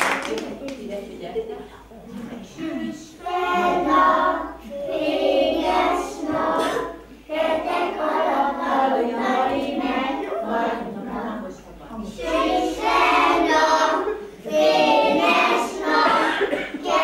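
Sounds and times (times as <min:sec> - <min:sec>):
children singing: 0:03.2 - 0:17.0.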